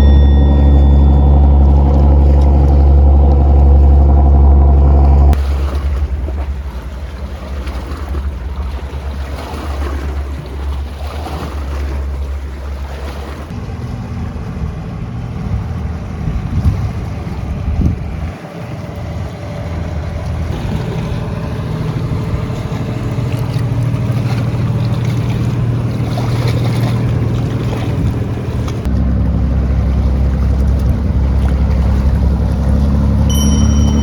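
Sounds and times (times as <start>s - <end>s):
engine running: 0.0s - 34.0s
wind buffeting microphone: 0.0s - 34.0s.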